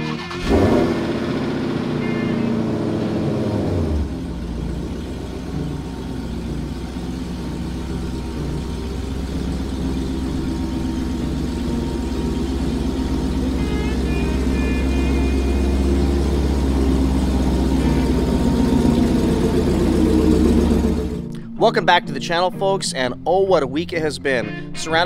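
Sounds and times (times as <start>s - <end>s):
car engine starting and idling: 0.0s - 22.0s.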